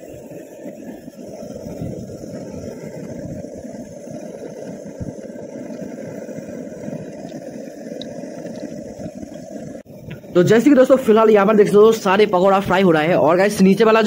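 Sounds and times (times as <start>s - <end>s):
deep-frying rushing noise: 0.0s - 14.0s
oil crackling: 0.0s - 14.0s.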